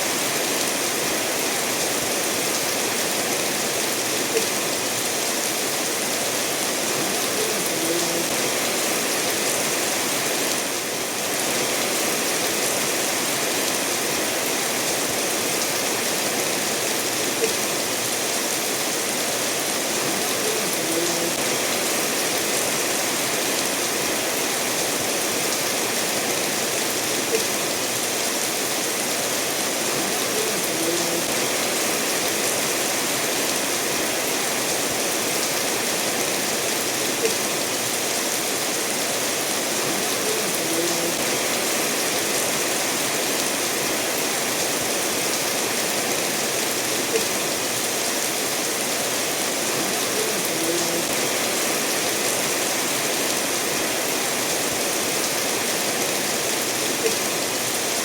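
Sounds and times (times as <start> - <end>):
steady rain: 0.0 - 58.0
stream running over stones: 0.0 - 58.0.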